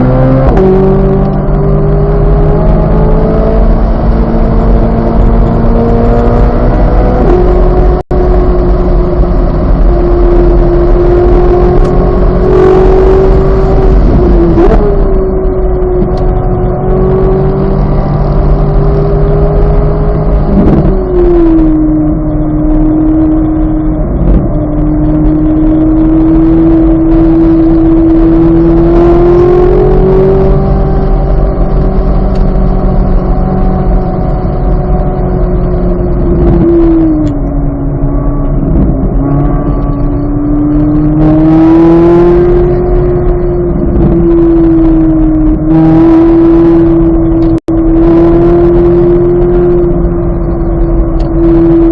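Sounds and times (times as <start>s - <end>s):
sports car engine revving: 0.0s - 51.9s.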